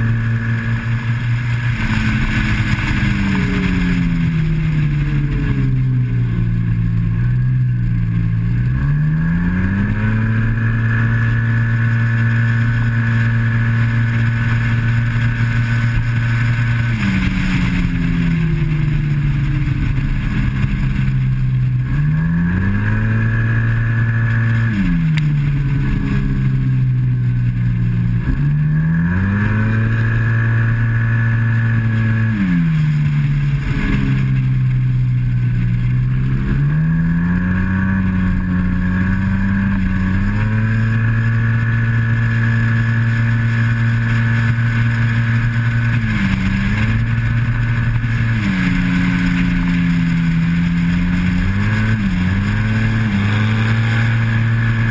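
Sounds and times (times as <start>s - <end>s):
heavy wind noise: 0.0s - 11.8s, 12.5s - 54.9s
scooter engine revving: 0.0s - 54.9s.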